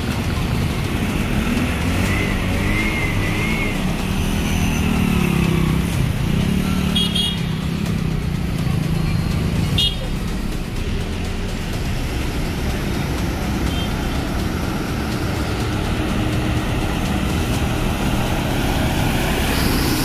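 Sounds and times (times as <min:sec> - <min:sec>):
engines rumbling through water: 0:00.0 - 0:20.0.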